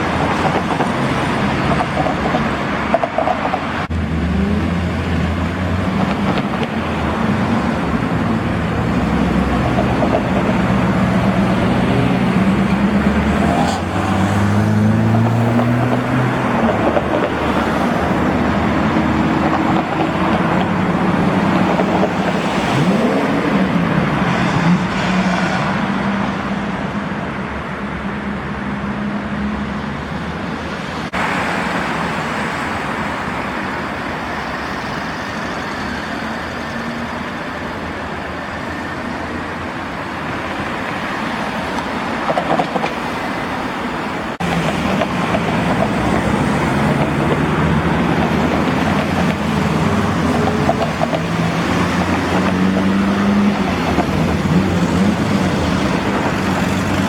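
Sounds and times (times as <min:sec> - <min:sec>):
cars driving by: 0:00.0 - 0:57.0
road noise: 0:00.0 - 0:57.0.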